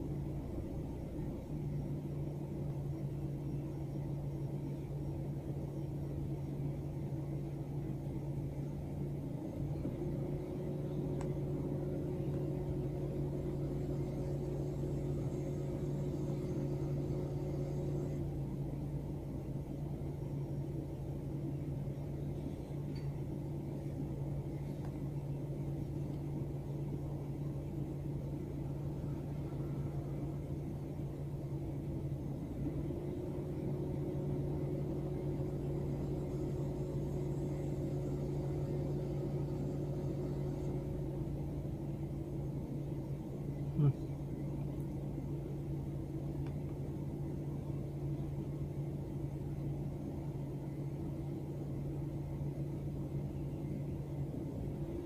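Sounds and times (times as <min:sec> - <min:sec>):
car idling hum: 0:00.0 - 0:55.0.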